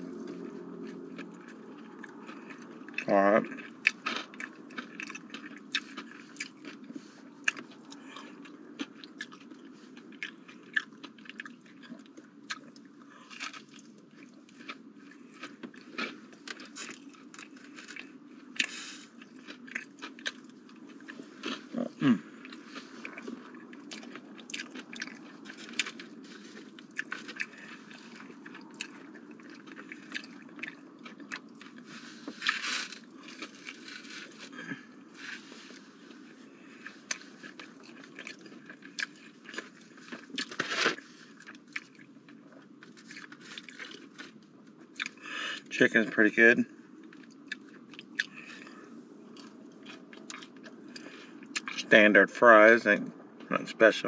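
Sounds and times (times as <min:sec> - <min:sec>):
chewing with crunches: 0:00.0 - 0:46.2, 0:46.9 - 0:52.0
low steady hum: 0:00.0 - 0:54.0.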